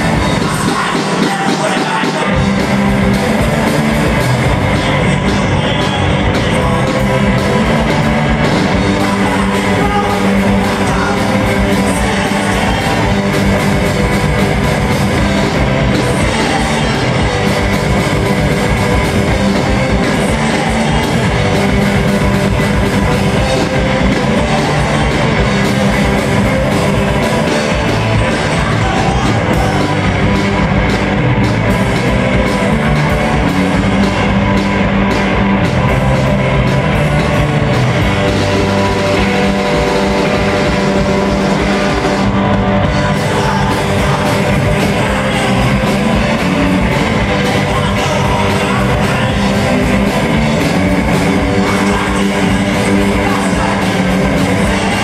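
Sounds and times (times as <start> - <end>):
drum kit: 0.0 - 55.0
electric bass: 0.0 - 55.0
electric guitars: 0.0 - 55.0.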